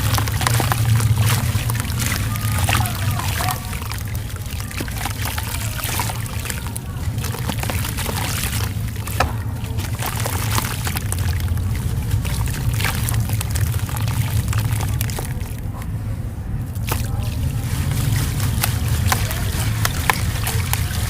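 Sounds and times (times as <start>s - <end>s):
wet sand crackling and crunching: 0.0s - 15.9s, 16.6s - 21.0s
steady low hum: 0.0s - 21.0s
trickling squishy water: 0.0s - 21.0s.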